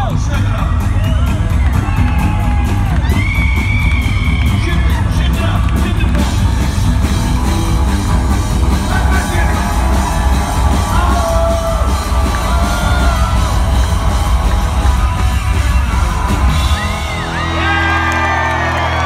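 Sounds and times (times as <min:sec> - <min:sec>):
crowd whooping and yelling: 0:00.0 - 0:05.8, 0:07.1 - 0:19.0
live rockabilly band playing: 0:00.0 - 0:19.0.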